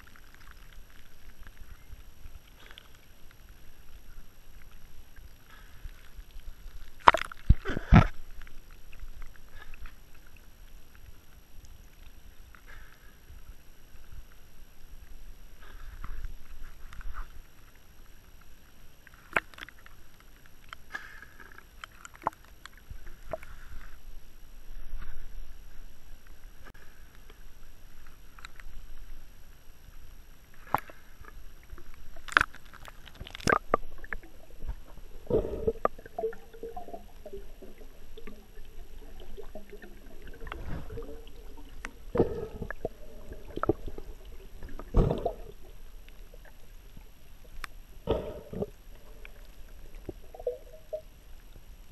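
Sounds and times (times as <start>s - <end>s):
water sloshing and gurgling: 0.0s - 51.9s.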